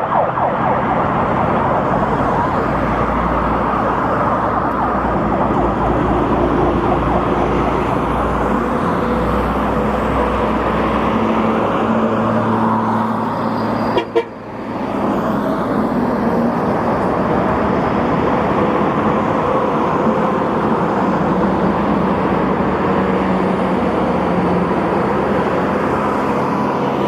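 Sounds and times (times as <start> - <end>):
road traffic with engines running: 0.0 - 27.0.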